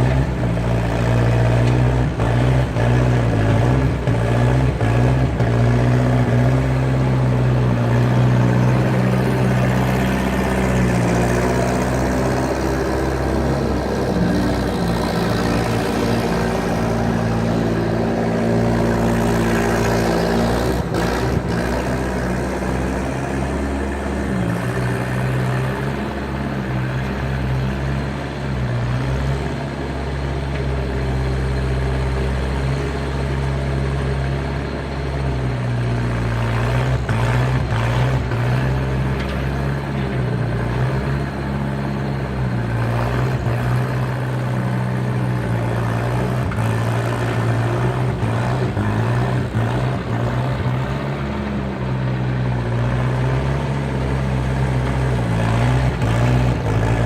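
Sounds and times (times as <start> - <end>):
loader engine running: 0.0 - 57.0.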